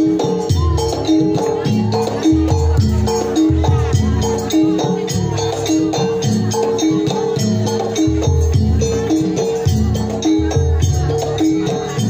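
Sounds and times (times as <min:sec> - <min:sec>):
drums: 0:00.0 - 0:12.0
gamelan music: 0:00.0 - 0:12.0.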